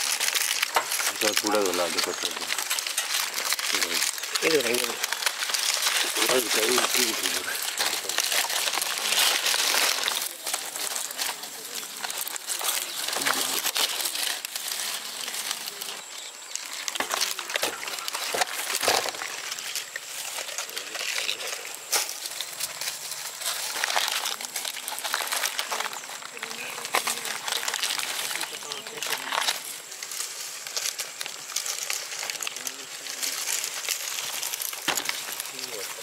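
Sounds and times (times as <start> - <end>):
crinkling crackling handling noise: 0.0 - 36.0.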